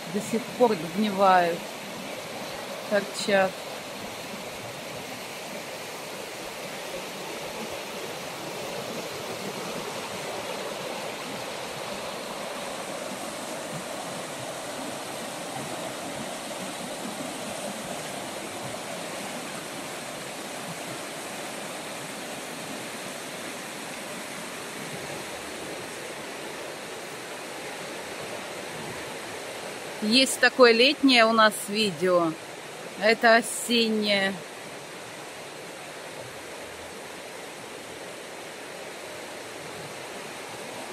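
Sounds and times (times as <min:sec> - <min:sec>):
river water rushing over rapids: 0:00.0 - 0:40.9.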